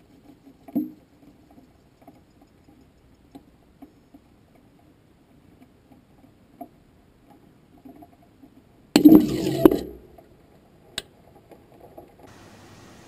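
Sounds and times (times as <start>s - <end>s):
faint small ticks and clicks: 0.0s - 8.9s, 10.0s - 12.4s.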